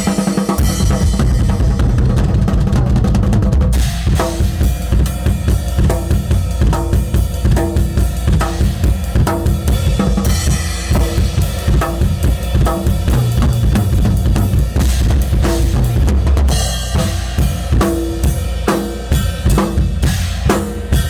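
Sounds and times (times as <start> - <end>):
bass drum: 0.0 - 21.0
drum kit playing fast: 0.0 - 21.0.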